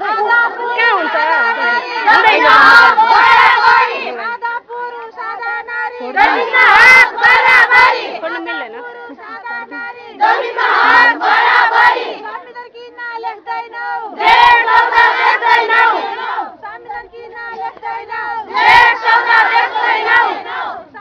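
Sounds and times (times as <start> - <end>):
crowd of women chanting: 0.0 - 21.0.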